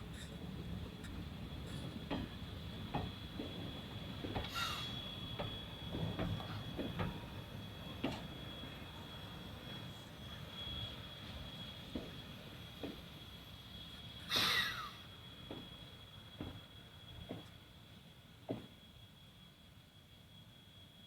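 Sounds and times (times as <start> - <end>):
train rumbling on tracks: 0.0 - 18.8.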